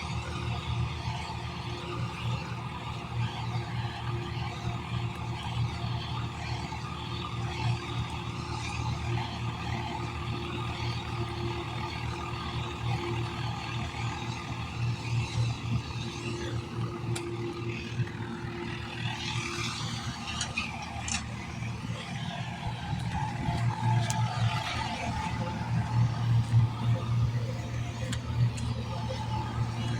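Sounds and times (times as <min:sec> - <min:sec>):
tractor diesel engine humming: 0:00.0 - 0:29.9.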